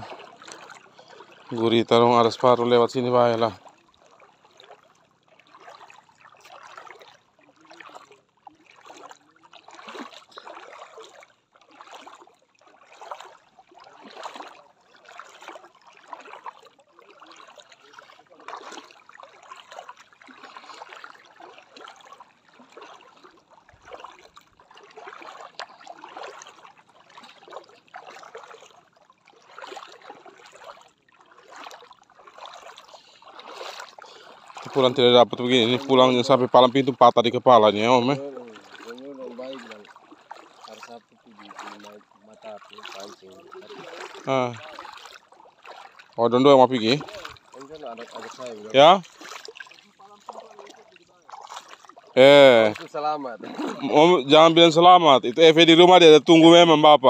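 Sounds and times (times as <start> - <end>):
footsteps wading in water: 0.0 - 57.0.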